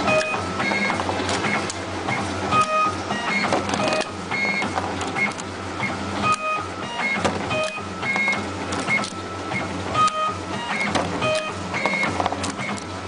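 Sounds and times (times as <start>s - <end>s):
machine motors whirring: 0.0s - 13.0s
machine clicks: 0.1s - 5.5s, 6.3s - 13.0s.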